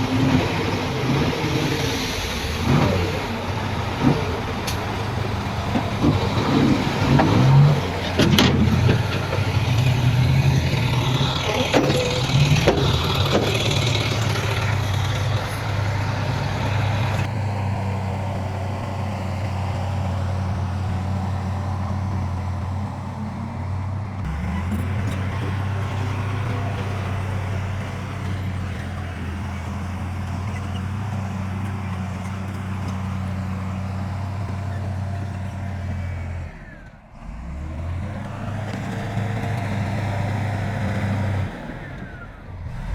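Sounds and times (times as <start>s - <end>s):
clanks and knocks: 0.0s - 36.0s
heavy diesel machinery humming: 0.0s - 42.9s.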